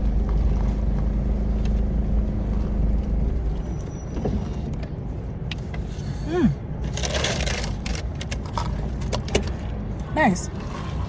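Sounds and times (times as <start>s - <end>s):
low motor rumble: 0.0s - 8.9s
constant hum: 0.0s - 11.0s.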